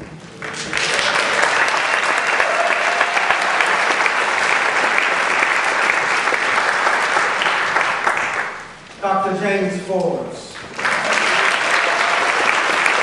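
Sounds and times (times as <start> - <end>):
audience applauding: 0.0 - 8.8, 10.6 - 13.0.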